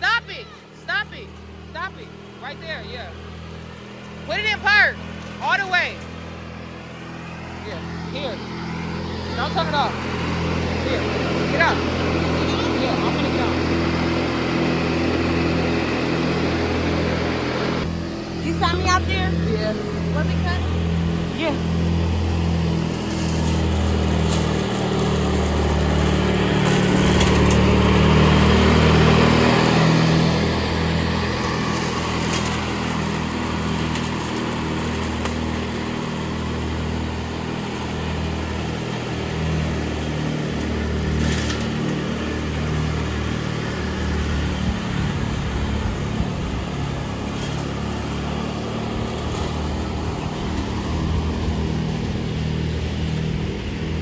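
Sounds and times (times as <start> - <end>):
ride-on mower engine running: 0.0 - 54.0.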